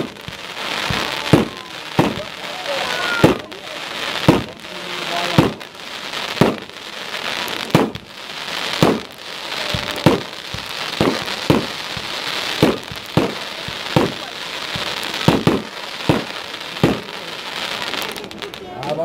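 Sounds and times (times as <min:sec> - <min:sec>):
firework cake bangs: 0:00.0 - 0:18.7
firework crackling hiss: 0:00.0 - 0:19.0.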